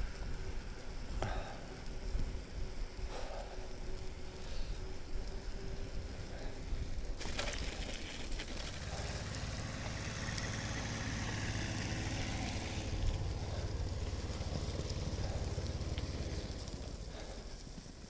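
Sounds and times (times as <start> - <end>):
bicycle tyre and frame rumble: 0.0 - 18.0.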